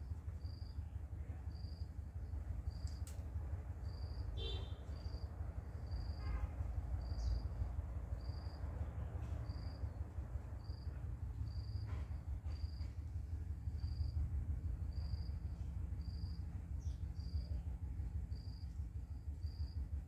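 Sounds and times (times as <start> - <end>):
low steady rumble: 0.0 - 20.0
insect chirping: 0.3 - 3.0, 3.8 - 12.9, 13.7 - 14.2, 14.8 - 17.6, 18.3 - 19.9.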